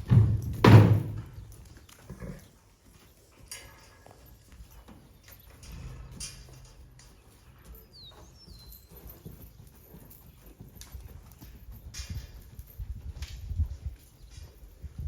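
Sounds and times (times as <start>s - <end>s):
horse hoofbeats: 0.0s - 15.0s.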